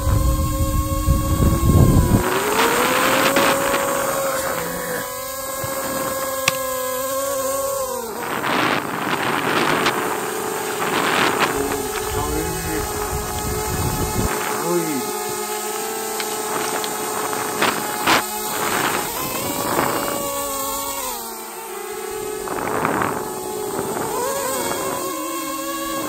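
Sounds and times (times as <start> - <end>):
wind buffeting microphone: 0.0 - 21.2, 22.0 - 26.0
drone propellers whining: 0.0 - 26.0.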